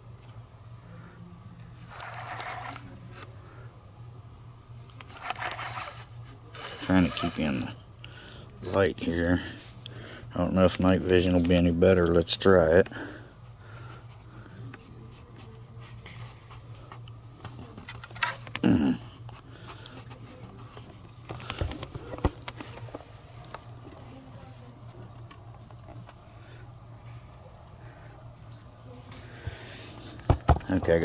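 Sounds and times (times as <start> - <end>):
night insects chirring: 0.0 - 31.0.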